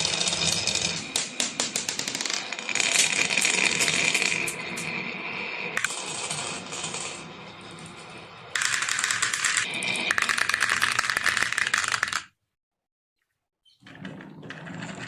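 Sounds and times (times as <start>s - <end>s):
marbles rattling down track: 0.0s - 12.3s, 14.0s - 15.0s.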